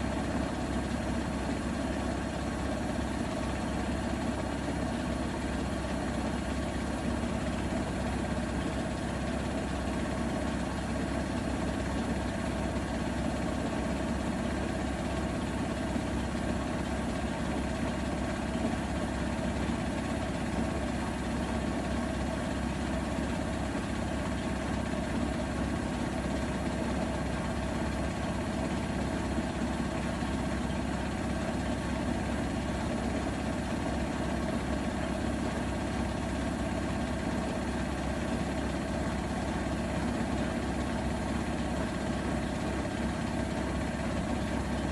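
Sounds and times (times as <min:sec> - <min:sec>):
washing machine spinning: 0:00.0 - 0:44.9.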